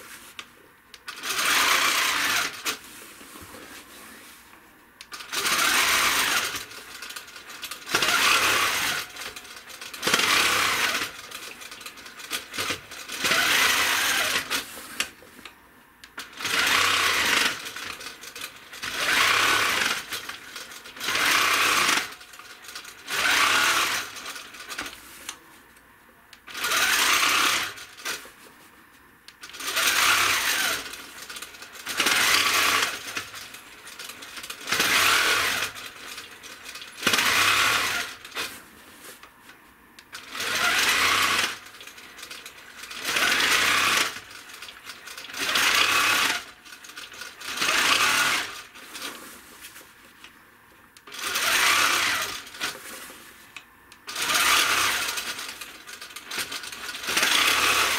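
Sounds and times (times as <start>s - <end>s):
quilting machine stitching: 1.1s - 2.8s, 5.0s - 15.1s, 16.2s - 25.0s, 26.4s - 28.3s, 29.4s - 38.6s, 40.1s - 49.3s, 51.0s - 53.1s, 54.0s - 57.9s.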